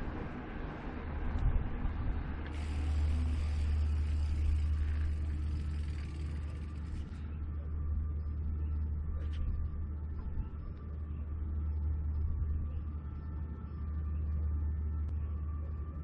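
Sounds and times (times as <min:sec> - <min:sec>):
wind and tyre rumble: 0:00.0 - 0:15.2.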